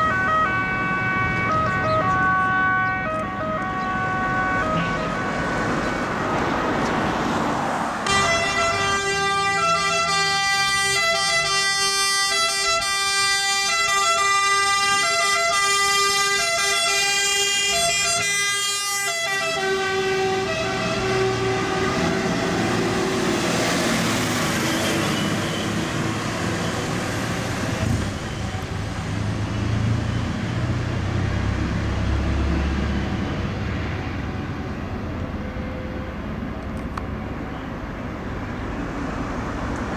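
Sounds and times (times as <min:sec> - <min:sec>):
two-tone emergency sirens: 0:00.0 - 0:06.4, 0:08.0 - 0:36.4
road noise: 0:00.0 - 0:39.9
truck engine: 0:00.0 - 0:39.9.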